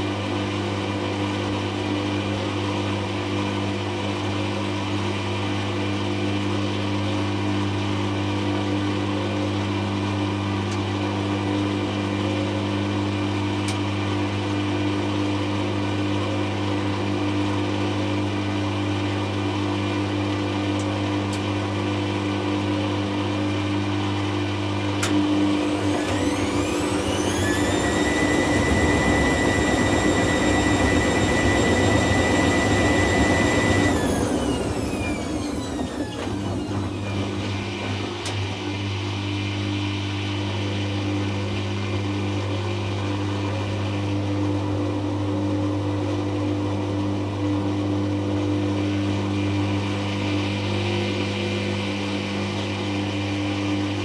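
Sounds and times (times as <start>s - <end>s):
washing machine motor and pump hum: 0.0s - 54.0s
washing machine spin whine: 0.0s - 54.0s.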